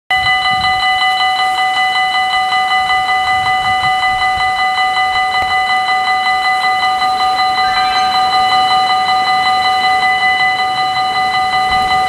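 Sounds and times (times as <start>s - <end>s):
level crossing bell ringing: 0.1s - 12.0s.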